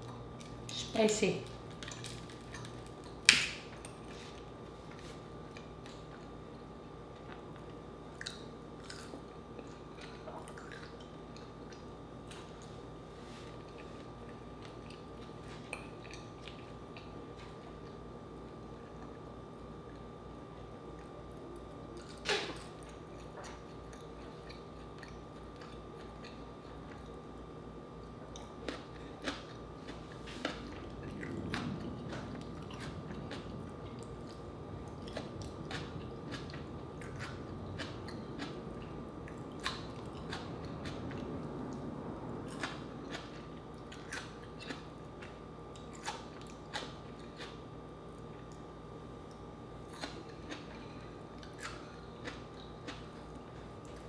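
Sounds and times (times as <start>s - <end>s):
crunchy chewing and biting: 1.6s - 54.0s.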